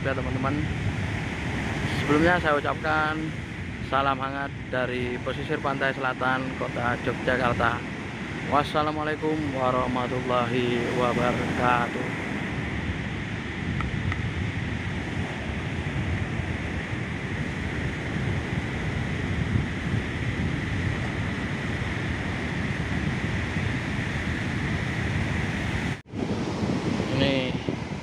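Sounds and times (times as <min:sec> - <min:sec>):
ocean surf breaking: 0:00.0 - 0:28.0
wind on microphone: 0:00.0 - 0:28.0.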